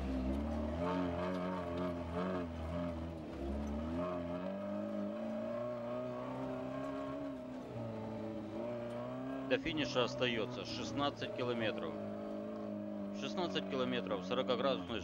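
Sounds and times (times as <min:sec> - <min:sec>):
jeep engine revving in sand: 0:00.2 - 0:13.5.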